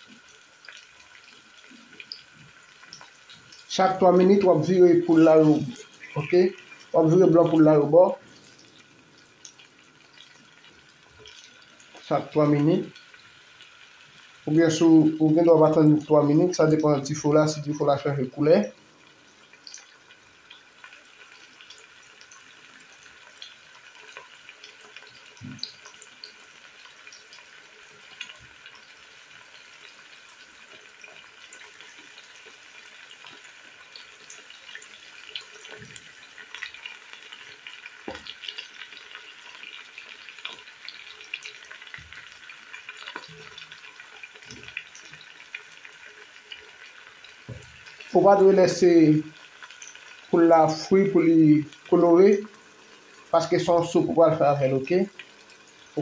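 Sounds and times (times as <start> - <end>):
chicken frying in oil: 0.0 - 56.0.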